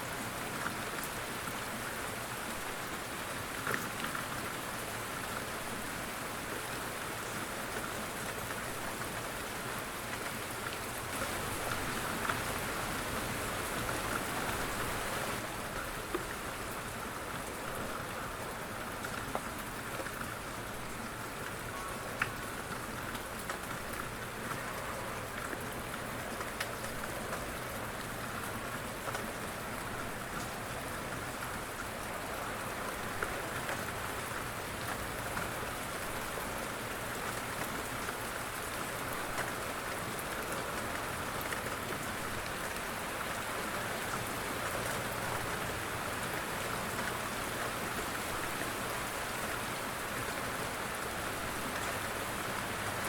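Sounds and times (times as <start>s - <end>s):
light rain hiss: 0.0s - 53.0s.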